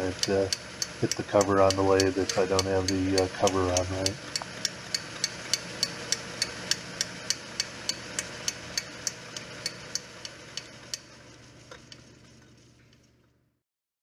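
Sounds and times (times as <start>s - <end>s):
motor hum: 0.0s - 13.5s.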